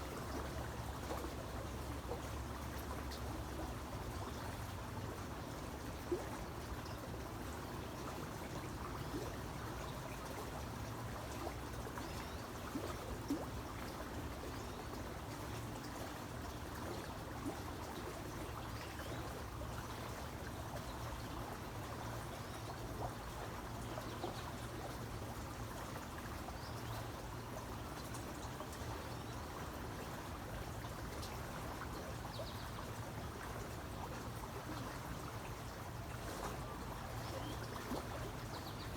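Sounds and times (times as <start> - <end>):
creek water trickling: 0.0 - 38.9.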